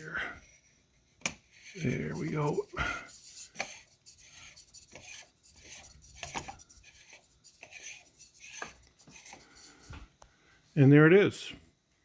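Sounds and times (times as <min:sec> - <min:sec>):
hard parts rubbing and scraping: 0:00.0 - 0:10.0.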